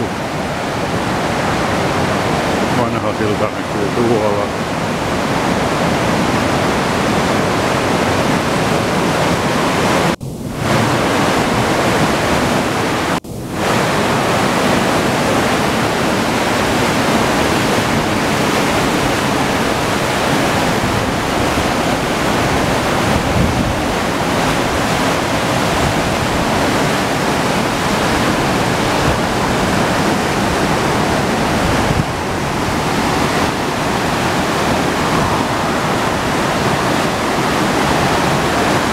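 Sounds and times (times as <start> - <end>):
river rapids rushing over rocks: 0.0 - 38.9.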